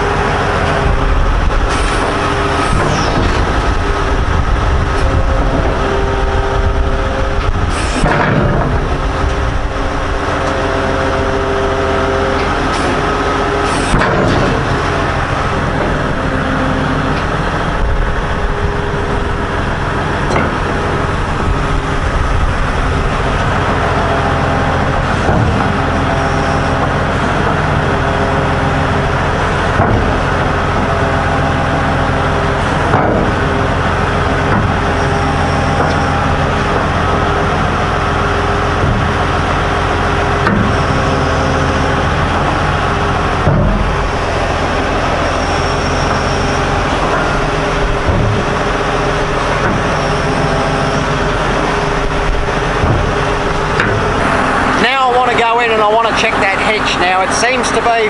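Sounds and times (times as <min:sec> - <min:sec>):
wheel loader diesel engine: 0:00.0 - 0:58.0.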